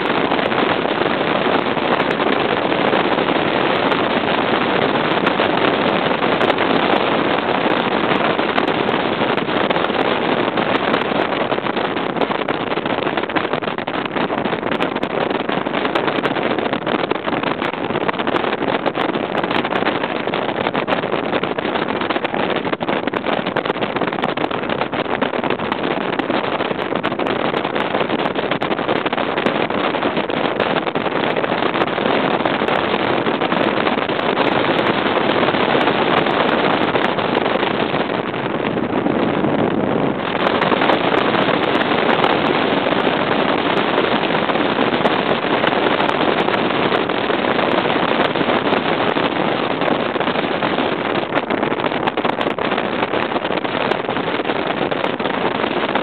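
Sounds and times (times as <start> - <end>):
outboard motor: 0.0 - 56.0
wind and water rush: 0.0 - 56.0.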